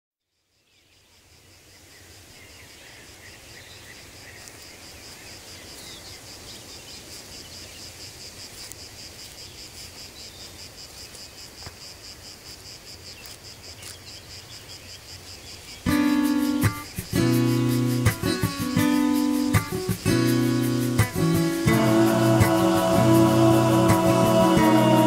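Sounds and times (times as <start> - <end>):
insects chirping: 0.3 - 25.0.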